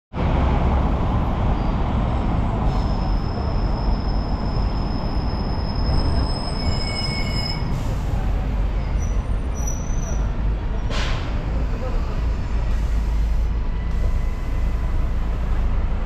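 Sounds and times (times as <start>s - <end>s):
buses driving past: 0.1s - 16.0s.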